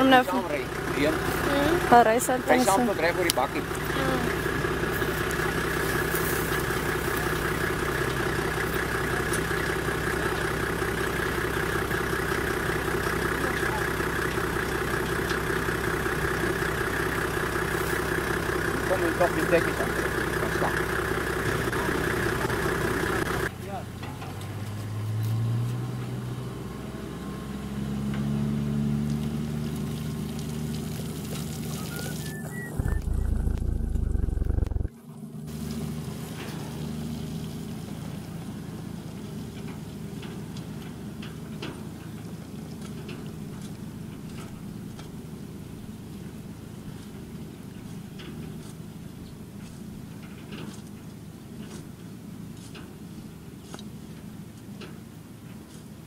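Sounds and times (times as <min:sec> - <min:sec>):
vehicle engine idling: 0:00.0 - 0:24.1, 0:29.6 - 0:50.9.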